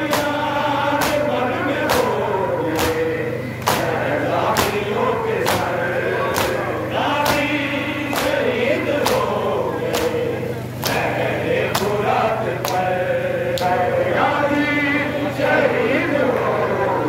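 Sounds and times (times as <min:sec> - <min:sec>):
men chanting in chorus: 0:00.0 - 0:17.0.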